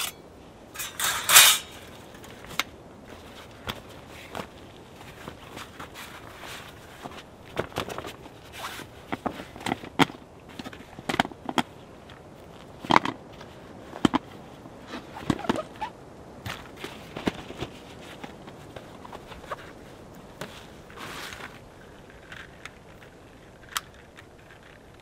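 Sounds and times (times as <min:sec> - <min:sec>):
camping poles knocking and clicking: 0:00.0 - 0:25.0
rustling: 0:00.0 - 0:25.0.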